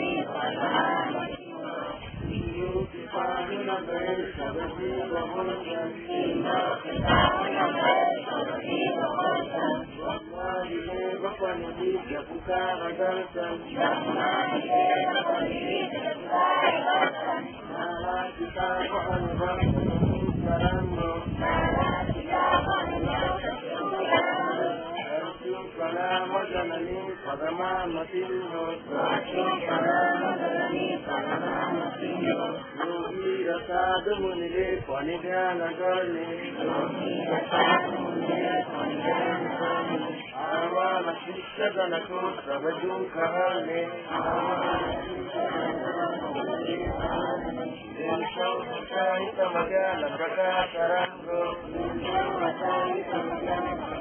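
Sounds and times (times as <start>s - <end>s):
group chanting in unison: 0.0s - 54.0s.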